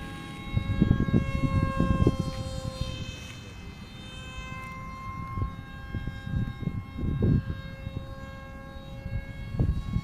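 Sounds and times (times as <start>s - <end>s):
model jet motor whining: 0.0s - 10.0s
wind rumbling on microphone: 0.0s - 10.0s.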